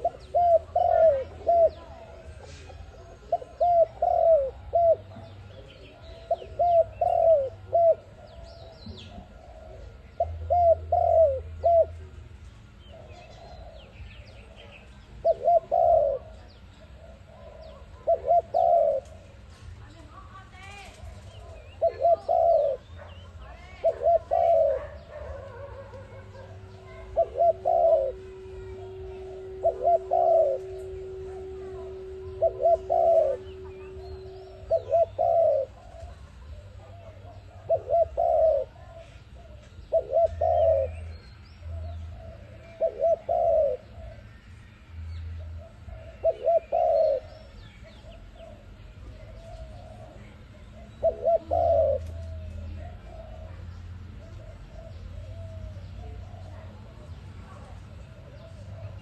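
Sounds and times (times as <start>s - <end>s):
dove cooing: 0.0s - 59.0s
small birds chirping: 0.0s - 59.0s
steady low hum: 0.0s - 59.0s.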